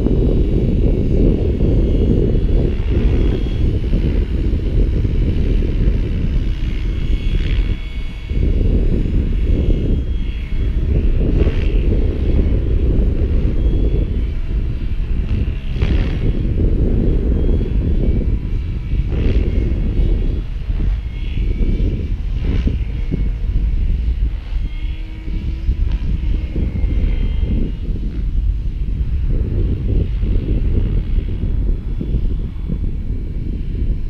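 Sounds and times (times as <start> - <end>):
helicopter rotor whine: 0.0 - 34.0
wind rumble on microphone: 0.0 - 34.0.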